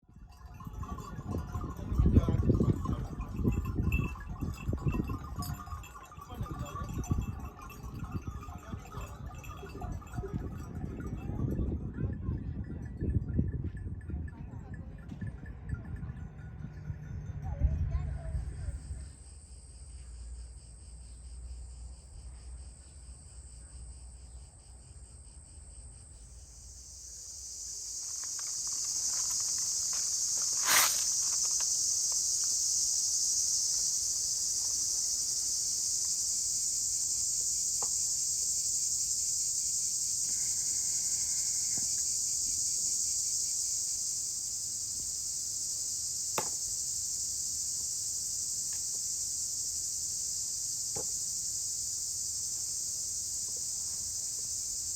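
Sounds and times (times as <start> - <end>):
insects droning: 0.2 - 13.4, 15.4 - 54.9.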